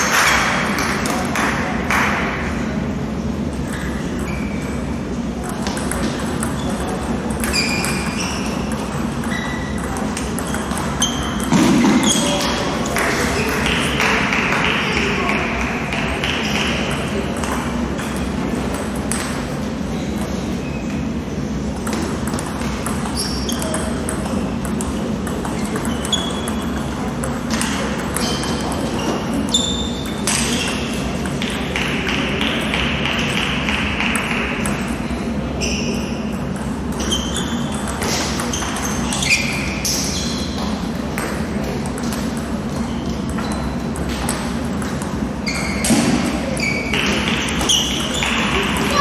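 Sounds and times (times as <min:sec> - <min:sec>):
sports hall noise: 0:00.0 - 0:49.0
table tennis balls pinging: 0:00.0 - 0:49.0.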